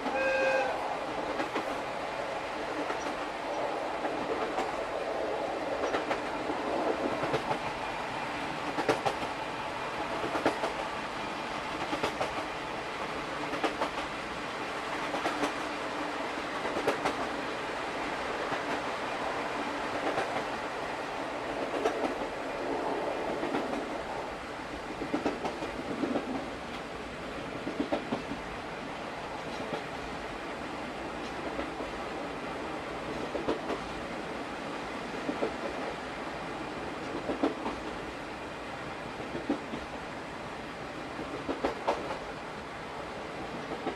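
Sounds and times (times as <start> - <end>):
train rolling rumble: 0.0 - 43.9.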